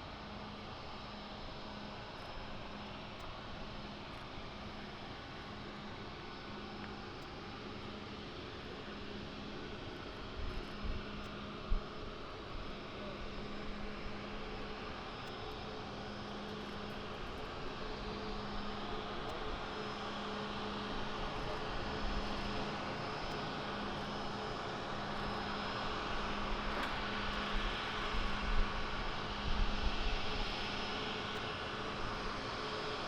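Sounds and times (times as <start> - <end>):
aircraft engines humming: 0.0 - 33.0.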